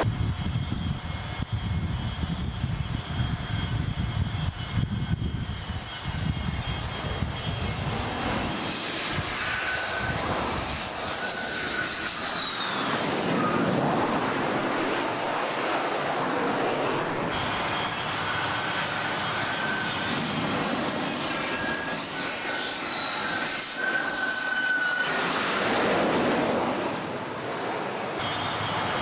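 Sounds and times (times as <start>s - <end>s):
aircraft turbine engines roaring: 0.0s - 29.0s
high turbine whine: 0.0s - 29.0s.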